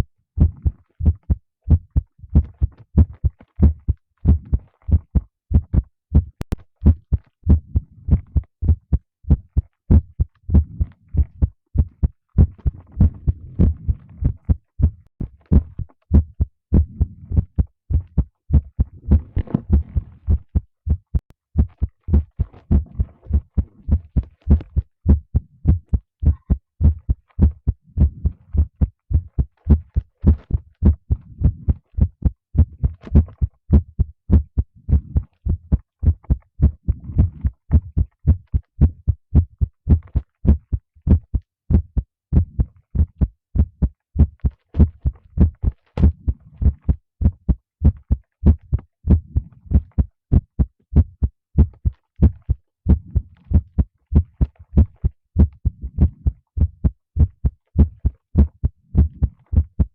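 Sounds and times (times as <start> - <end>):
heartbeat thumps: 0.0 - 59.9.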